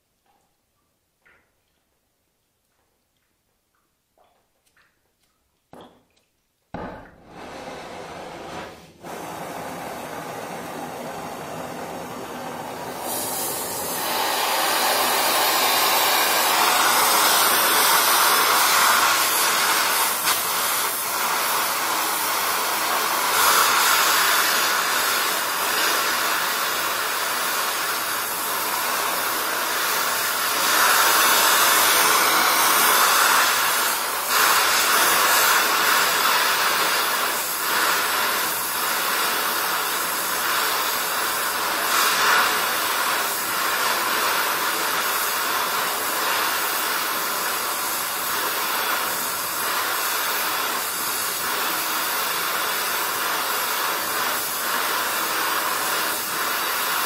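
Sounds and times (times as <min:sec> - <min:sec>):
welding torch flame hissing: 0:06.8 - 0:57.0.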